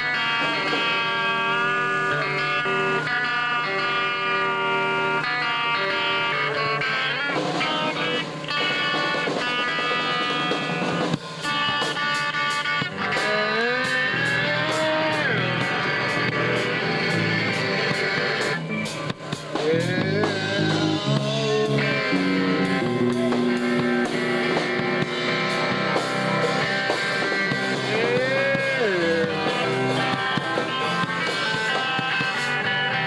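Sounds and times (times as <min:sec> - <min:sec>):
drums: 0:00.0 - 0:33.0
electric guitar with bending notes: 0:00.0 - 0:33.0.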